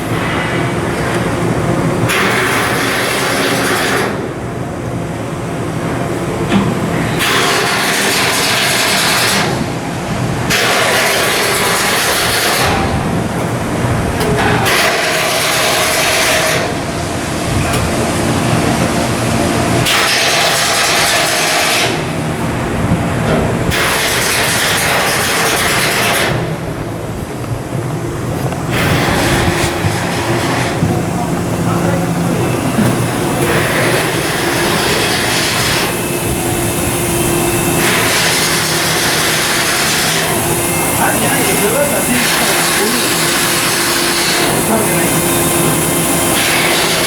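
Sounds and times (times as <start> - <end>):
machinery hissing: 0.0 - 47.0
machinery mechanical hum: 0.0 - 47.0.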